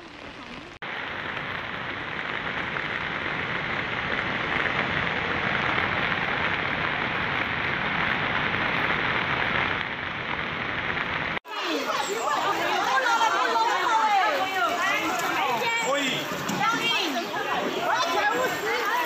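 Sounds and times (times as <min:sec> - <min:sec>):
floodwater rushing: 0:00.0 - 0:19.0
rain falling: 0:00.0 - 0:19.0.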